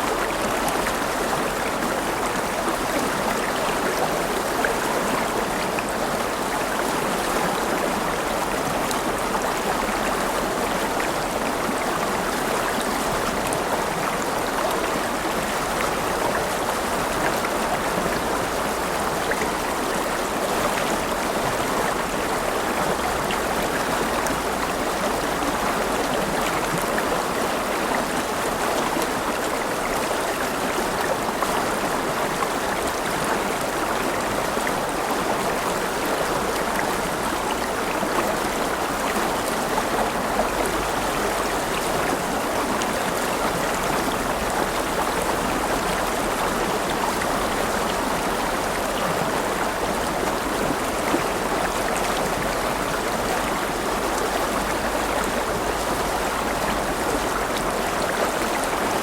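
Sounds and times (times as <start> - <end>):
river flowing over stones: 0.0 - 59.0.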